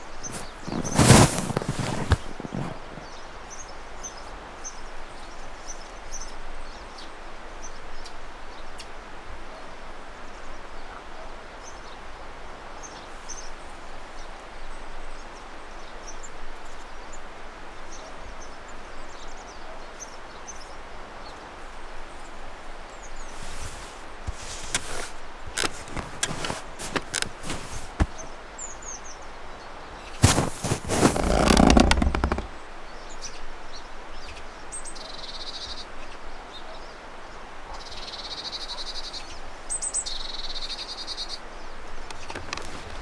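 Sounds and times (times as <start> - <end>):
small birds chirping: 0.0 - 12.1, 12.8 - 43.0
wind in trees hiss: 0.0 - 43.0.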